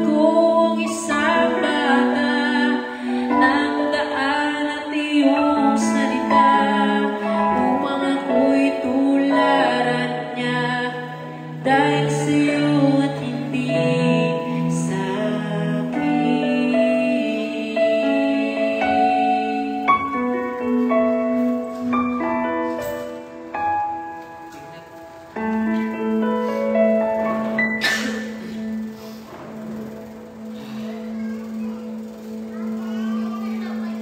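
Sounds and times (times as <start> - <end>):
slow gentle song with singing: 0.0 - 34.0.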